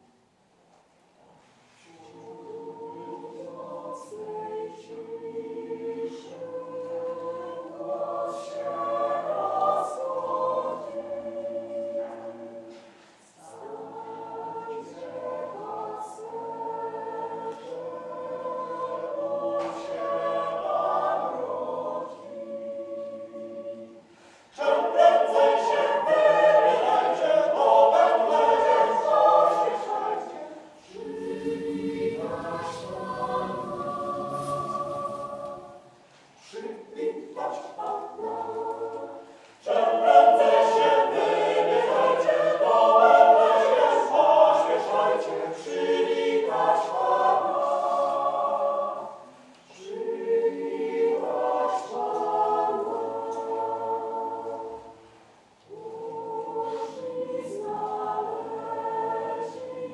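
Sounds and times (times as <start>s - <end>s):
choir singing a cappella: 1.2s - 59.9s.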